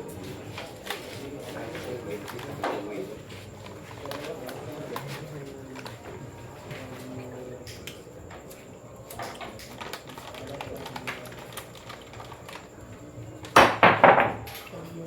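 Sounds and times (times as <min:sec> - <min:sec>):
pool balls clicking: 0:00.2 - 0:14.8.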